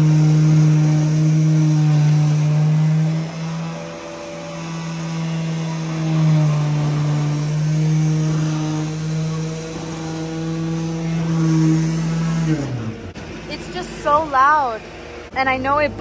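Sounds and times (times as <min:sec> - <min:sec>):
concrete slurry pouring: 0:00.0 - 0:14.2
vibrator buzzing hum: 0:00.0 - 0:16.0.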